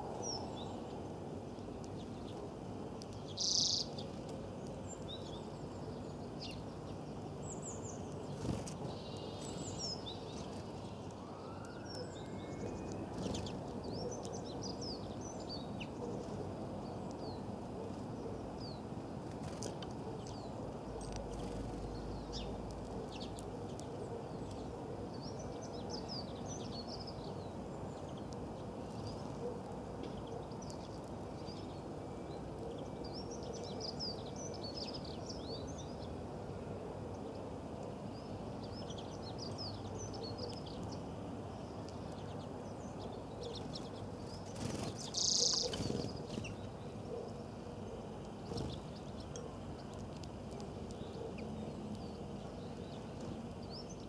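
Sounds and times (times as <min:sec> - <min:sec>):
outdoor background hiss: 0:00.0 - 0:54.0
songbirds chirping: 0:00.0 - 0:54.0.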